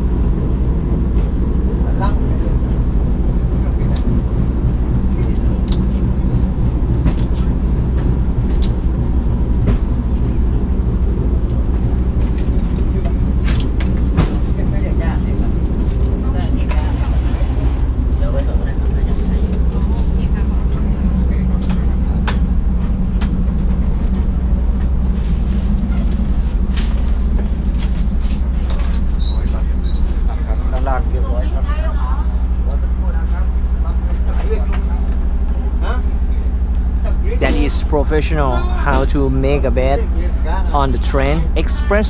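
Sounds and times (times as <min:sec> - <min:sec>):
low rumble inside train: 0:00.0 - 0:42.0.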